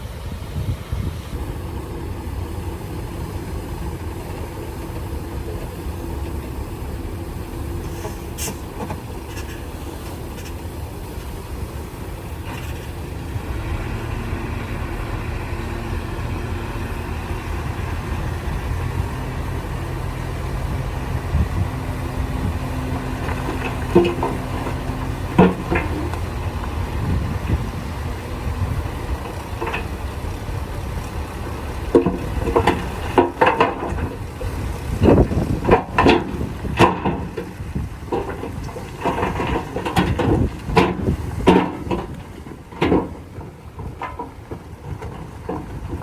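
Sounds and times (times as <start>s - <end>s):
diesel machinery engine rumble: 0.0s - 46.0s.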